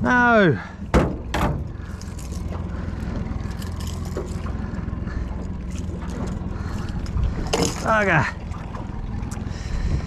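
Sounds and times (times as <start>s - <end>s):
boat engine low rumble: 0.0s - 10.0s.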